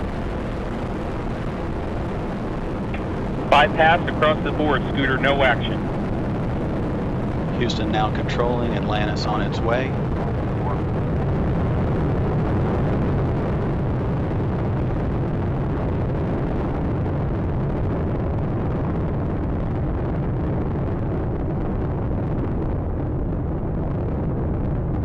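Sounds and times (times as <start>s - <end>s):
rocket engines rumbling: 0.0s - 25.0s.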